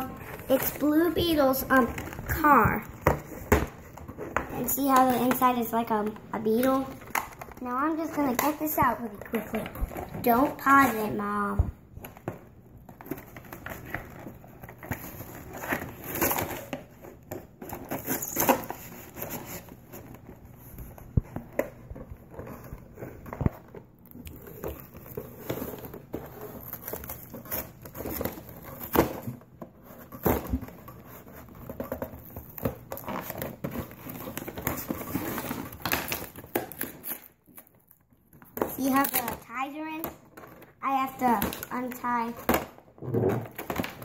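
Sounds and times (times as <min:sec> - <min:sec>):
packaging crinkling and rustling: 0:00.0 - 0:11.3, 0:11.9 - 0:44.0.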